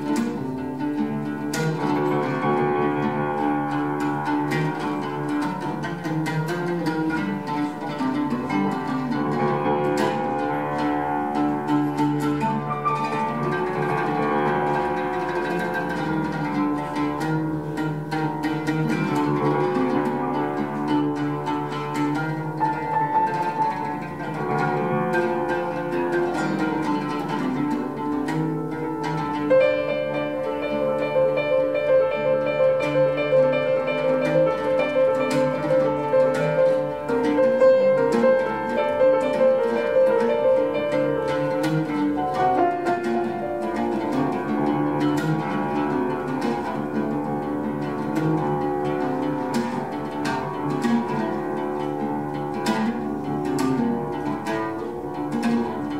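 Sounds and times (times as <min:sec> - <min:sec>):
grand piano: 0:00.0 - 0:55.9
plucked oud notes: 0:00.0 - 0:55.9.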